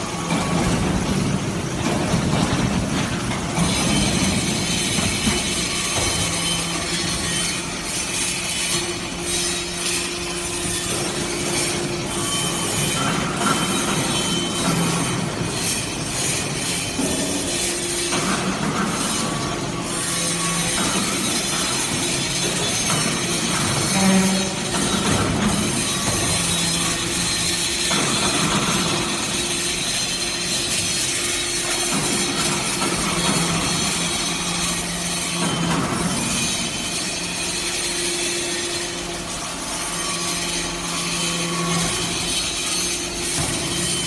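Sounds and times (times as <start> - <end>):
hydraulic press humming: 0.0 - 44.0.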